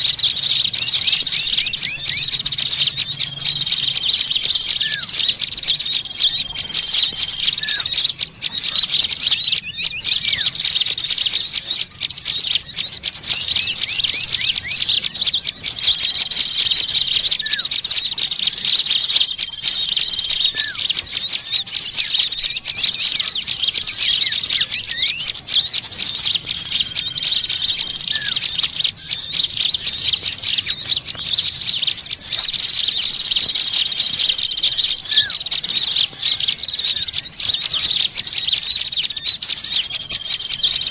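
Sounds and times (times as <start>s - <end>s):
songbirds chirping chorus: 0.0s - 40.9s.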